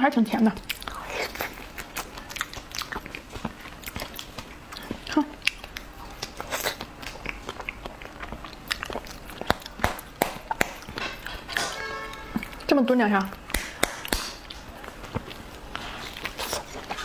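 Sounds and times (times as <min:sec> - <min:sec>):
wet chewing mouth sounds: 0:00.4 - 0:17.0.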